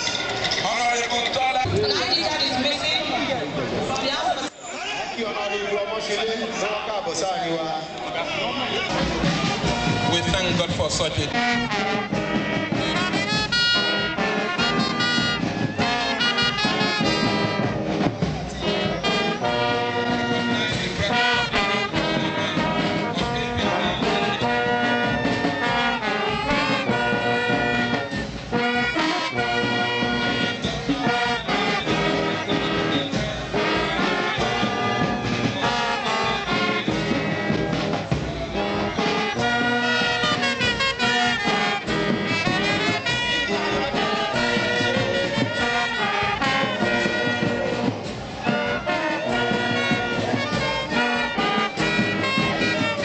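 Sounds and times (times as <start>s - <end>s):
brass band playing: 5.3s - 53.0s.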